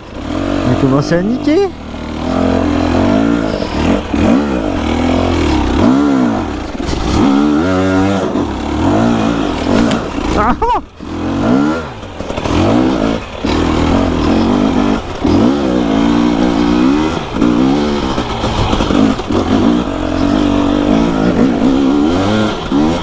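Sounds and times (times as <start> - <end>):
two-stroke motorcycle engine revving: 0.0 - 23.0.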